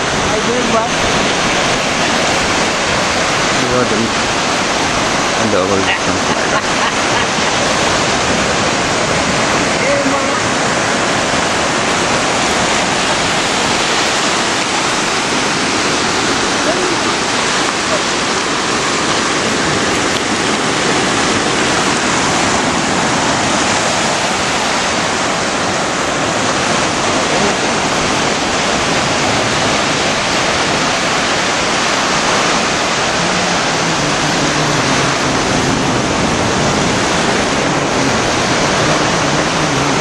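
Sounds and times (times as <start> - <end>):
surf waves rushing: 0.0 - 40.0.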